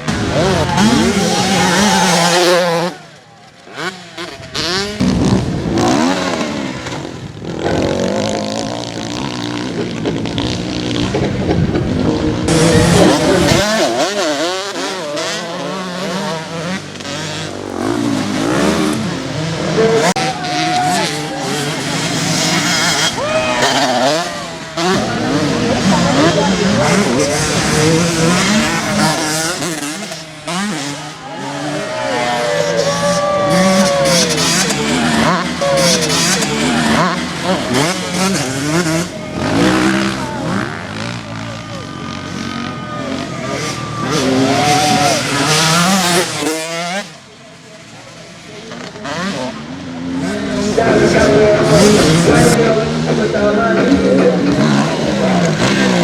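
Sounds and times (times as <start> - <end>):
motocross bike engines racing: 0.0 - 56.0.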